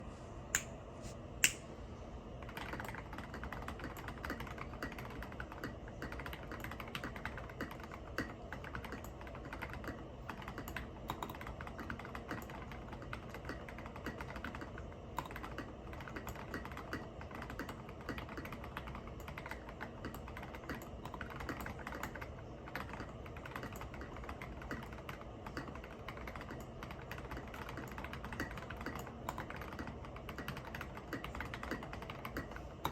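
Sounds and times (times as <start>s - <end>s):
mechanical keyboard typing: 2.4s - 32.9s.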